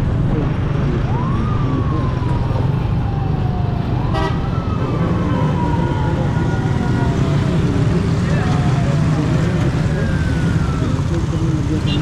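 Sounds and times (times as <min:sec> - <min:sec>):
motorcycle engine rumble: 0:00.0 - 0:12.0
siren wailing: 0:00.7 - 0:12.0.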